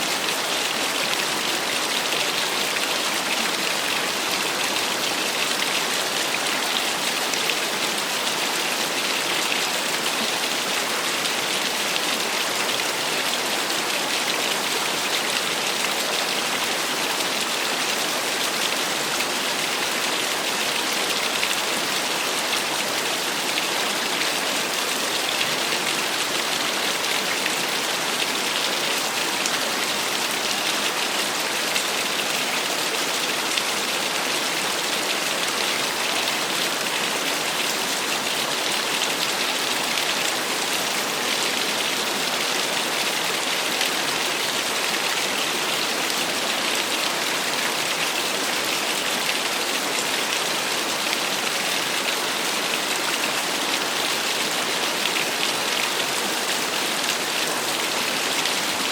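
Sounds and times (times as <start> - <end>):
small waterfall splashing: 0.0 - 58.9.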